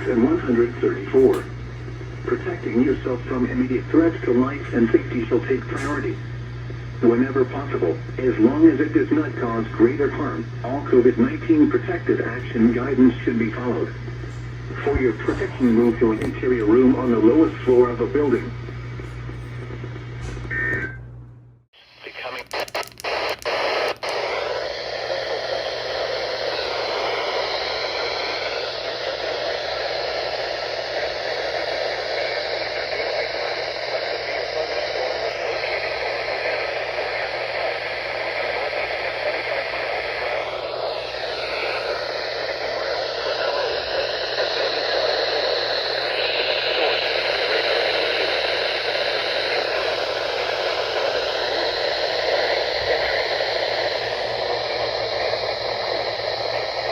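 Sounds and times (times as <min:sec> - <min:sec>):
radio static hiss: 0:00.0 - 0:56.9.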